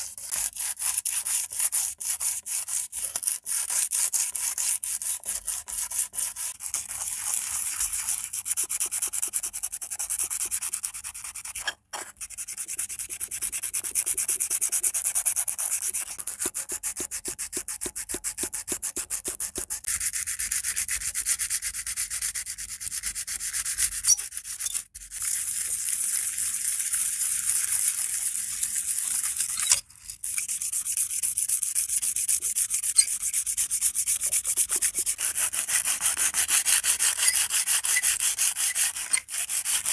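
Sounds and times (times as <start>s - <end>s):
sandpaper scratching on metal: 0.0s - 16.4s, 19.8s - 25.7s, 26.6s - 39.9s.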